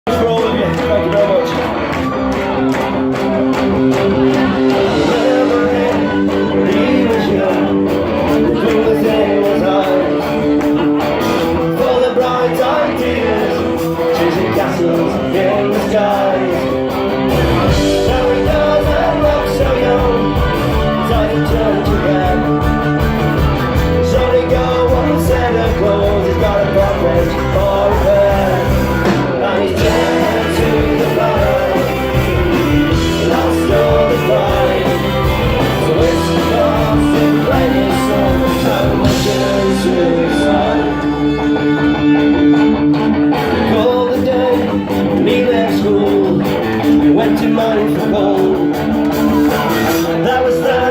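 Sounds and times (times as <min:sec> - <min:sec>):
bass and drum beat: 0:00.1 - 0:41.4, 0:42.0 - 0:50.9.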